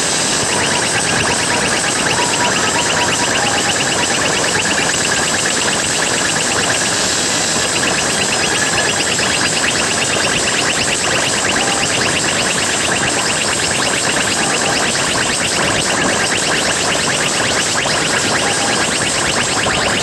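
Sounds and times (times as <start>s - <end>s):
warbling electronic vehicle horn: 0.2s - 20.0s.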